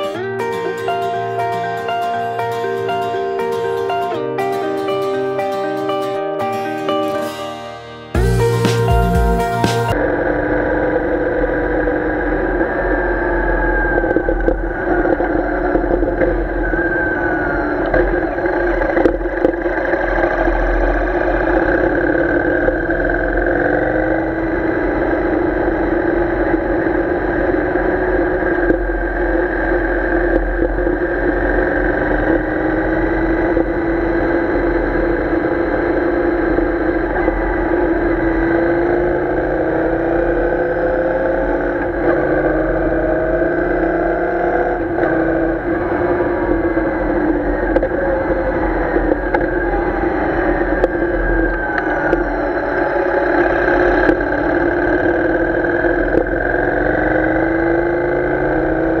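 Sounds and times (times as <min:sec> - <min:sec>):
motorcycle engine running: 0:08.2 - 0:59.0.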